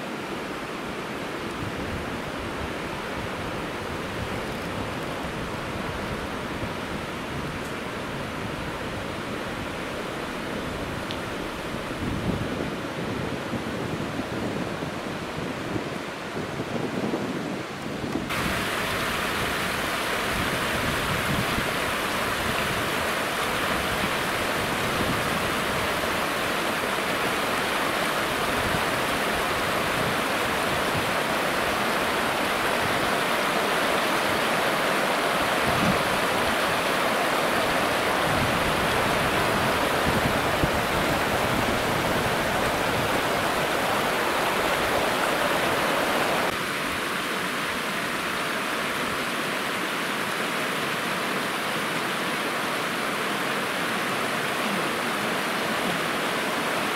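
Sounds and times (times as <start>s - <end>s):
rushing water: 0.0s - 56.9s.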